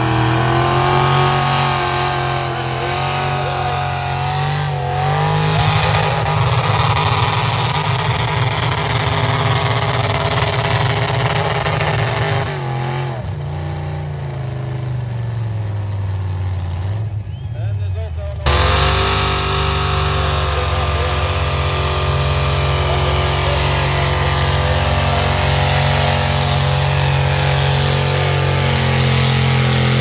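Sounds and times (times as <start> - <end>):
truck engine under heavy load: 0.0 - 30.0.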